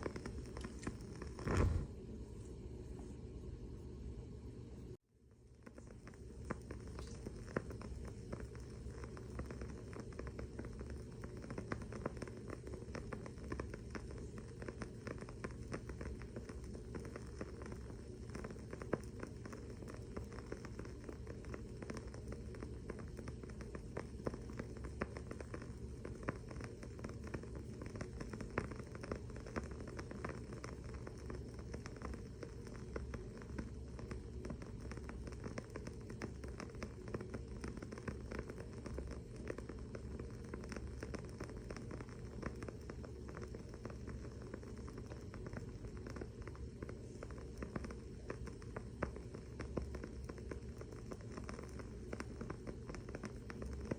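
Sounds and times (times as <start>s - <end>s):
candle crackling: 0.0s - 3.7s, 4.9s - 53.9s.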